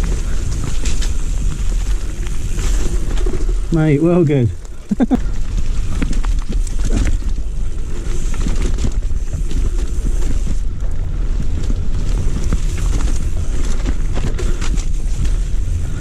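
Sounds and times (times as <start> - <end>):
bike rattling and knocking: 0.0 - 16.0
wind buffeting microphone: 0.0 - 16.0.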